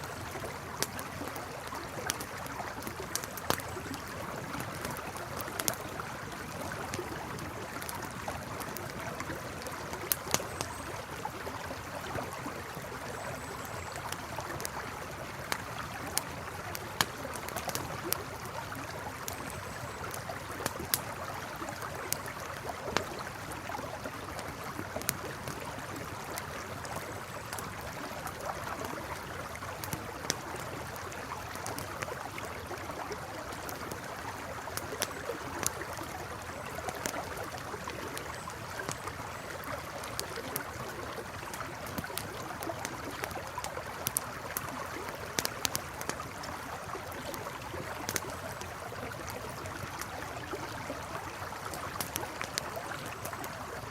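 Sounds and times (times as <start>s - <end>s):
campfire crackling and popping: 0.0s - 53.9s
river flowing: 0.0s - 53.9s.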